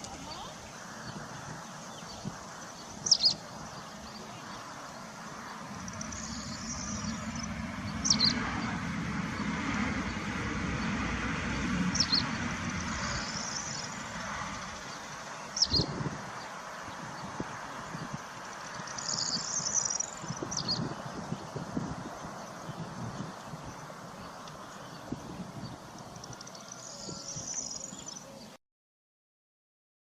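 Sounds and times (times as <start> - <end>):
low outdoor rumble: 0.0 - 28.3.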